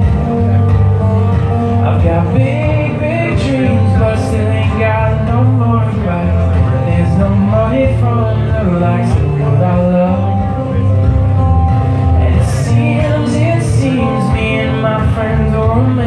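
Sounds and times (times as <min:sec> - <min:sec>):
strummed acoustic guitar: 0:00.0 - 0:16.0
man singing: 0:01.6 - 0:16.0.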